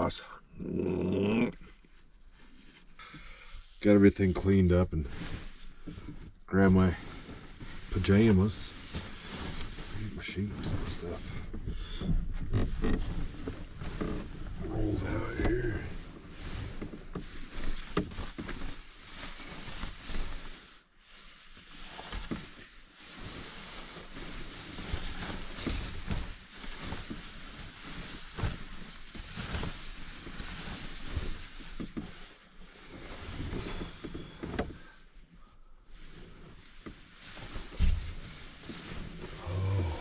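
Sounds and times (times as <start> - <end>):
bedding rustling and swishing: 1.8 - 40.0.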